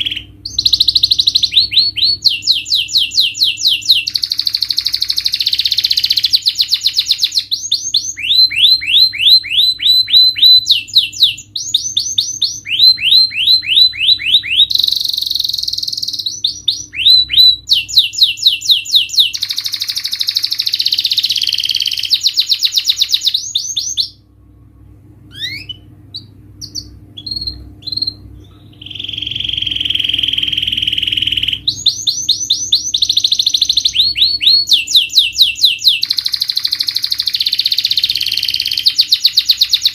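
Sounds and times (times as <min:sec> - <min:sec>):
canary singing trills: 0:00.0 - 0:24.3, 0:25.3 - 0:39.9.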